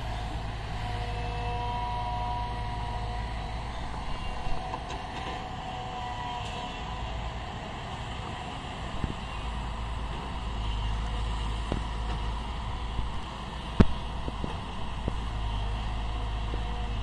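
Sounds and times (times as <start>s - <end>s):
diesel engines rumbling: 0.0s - 17.0s
faint engine whine: 0.0s - 17.0s.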